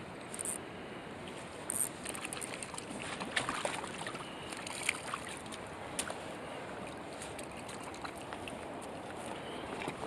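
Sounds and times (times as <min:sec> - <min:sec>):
river current flowing: 0:00.0 - 0:10.0.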